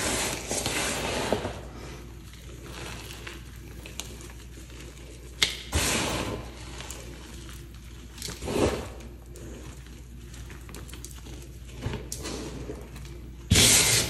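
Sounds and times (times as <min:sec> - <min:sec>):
chalk crunching: 0:00.0 - 0:14.0.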